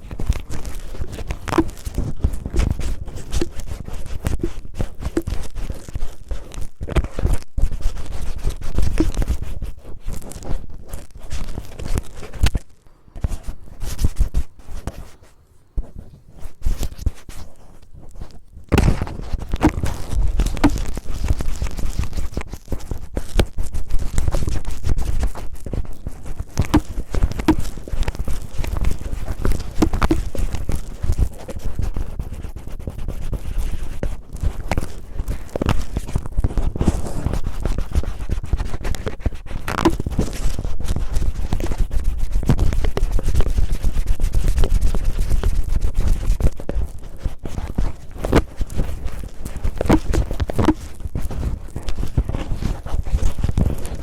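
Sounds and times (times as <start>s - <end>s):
cellophane crinkling on microphone: 0.0s - 54.0s.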